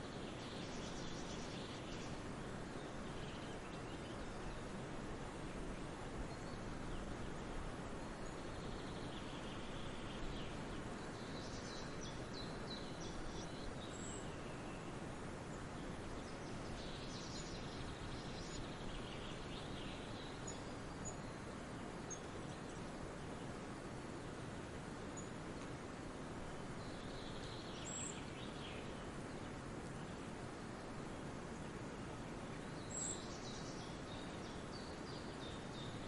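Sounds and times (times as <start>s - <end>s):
songbirds chirping and trilling: 0.0s - 36.0s
steady outdoor hiss: 0.0s - 36.0s.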